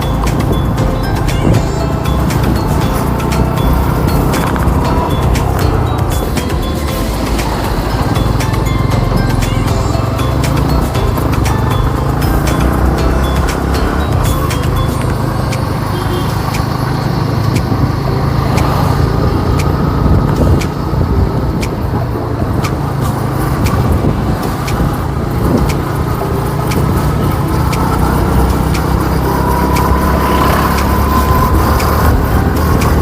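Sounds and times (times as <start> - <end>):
wind rumble on microphone: 0.0 - 11.8, 13.2 - 33.0
motorcycle engine riding: 0.0 - 33.0
road noise: 0.0 - 33.0.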